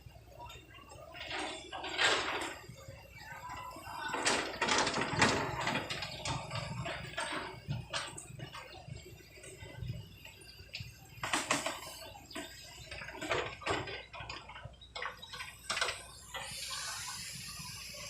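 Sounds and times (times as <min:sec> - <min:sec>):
excavator engine rumble: 0:00.0 - 0:18.0.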